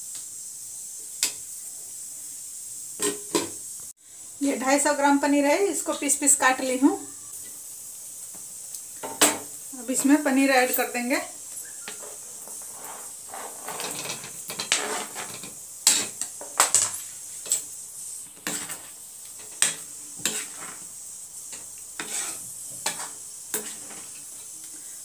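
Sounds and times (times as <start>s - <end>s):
faint sizzle: 0.0s - 25.0s.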